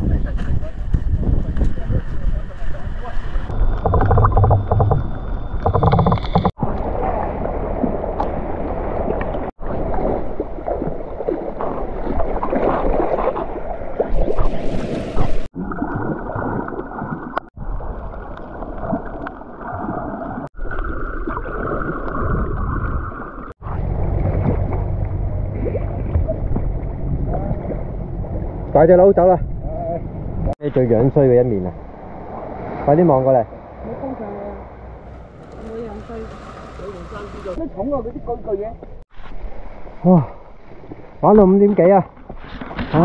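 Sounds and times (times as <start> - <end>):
muffled underwater rushing water: 0.0 - 43.0.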